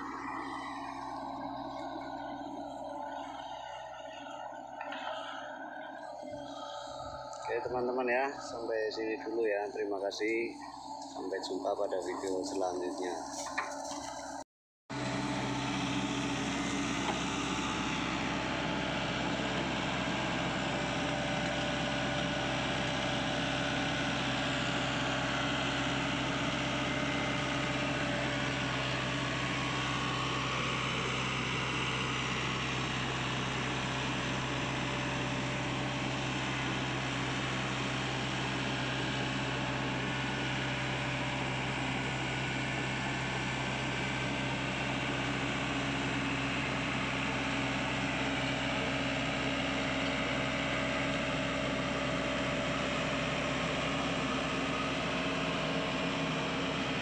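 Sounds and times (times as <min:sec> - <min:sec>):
diesel engine idling: 0:00.0 - 0:13.4, 0:14.9 - 0:57.0.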